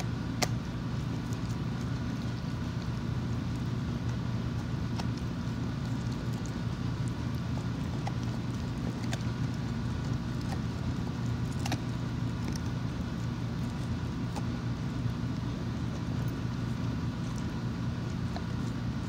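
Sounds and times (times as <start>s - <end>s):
dog gnawing with teeth clicks: 0.0s - 19.0s
steady low hum: 0.0s - 19.0s.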